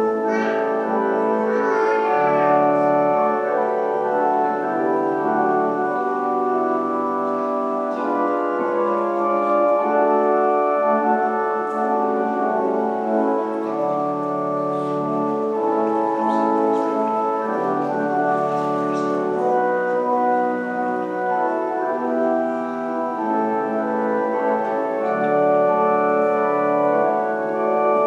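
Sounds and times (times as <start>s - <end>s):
slow organ-like chords: 0.0s - 28.0s.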